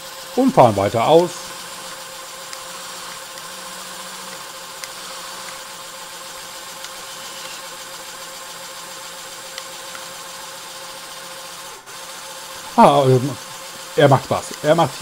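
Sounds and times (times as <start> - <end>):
small electric motors whirring: 0.0 - 15.0.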